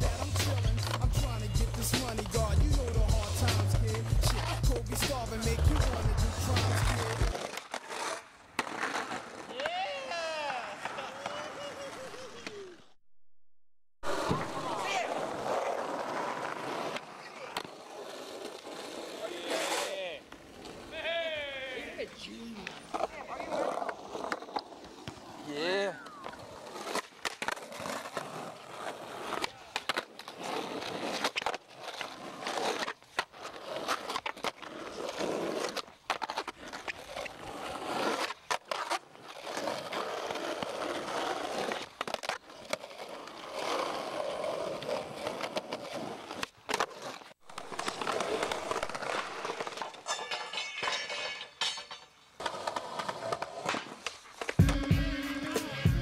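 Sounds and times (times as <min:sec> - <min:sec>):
skateboard wheels rolling: 0:00.0 - 0:13.0, 0:14.0 - 0:56.0.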